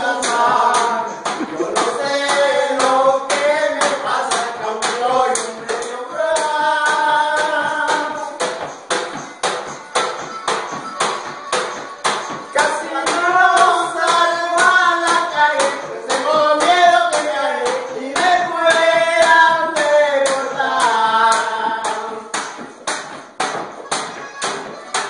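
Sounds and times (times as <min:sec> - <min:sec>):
men singing together: 0:00.0 - 0:09.6, 0:11.3 - 0:22.4
drumming on plastic buckets: 0:00.0 - 0:25.0.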